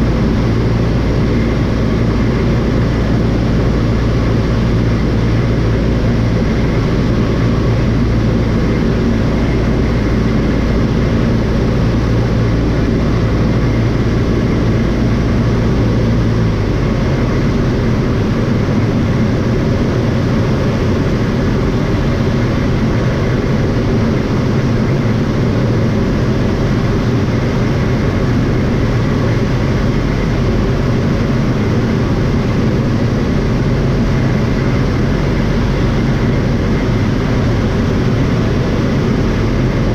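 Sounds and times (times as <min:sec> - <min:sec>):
airplane piston engine droning: 0:00.0 - 0:39.9.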